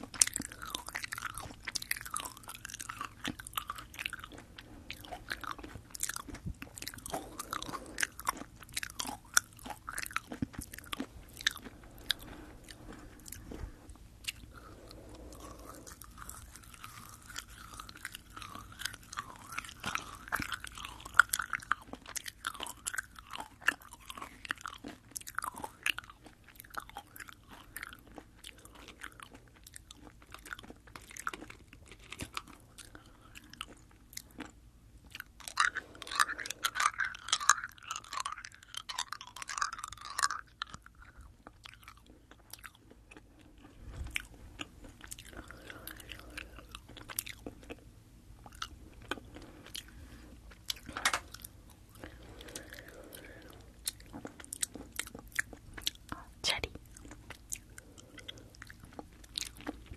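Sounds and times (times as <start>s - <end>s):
chewing gummy candy: 0.0s - 59.9s.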